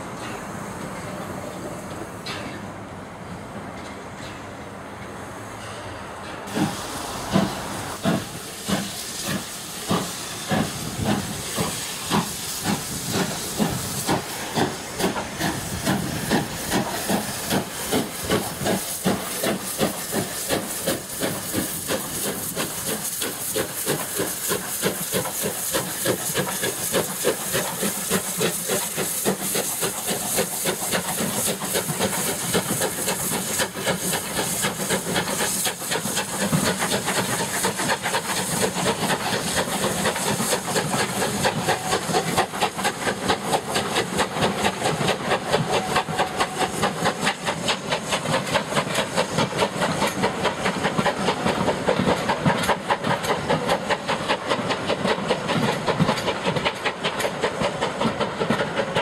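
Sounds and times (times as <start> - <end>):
steady hiss of steam: 0.0 - 59.0
steam locomotive exhaust chuffing: 6.5 - 59.0.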